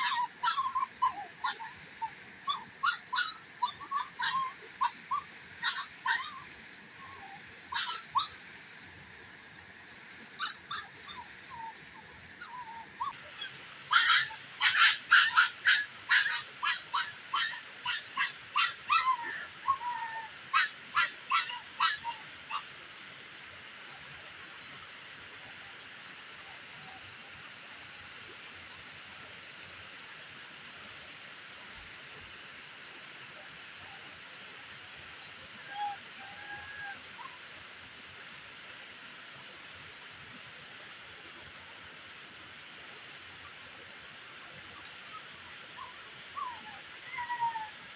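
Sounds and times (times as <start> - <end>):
steady hiss: 0.0 - 47.9.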